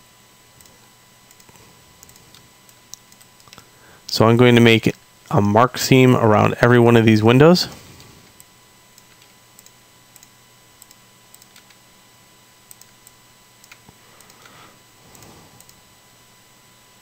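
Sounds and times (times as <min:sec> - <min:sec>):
low steady hum and hiss: 0:00.0 - 0:17.0.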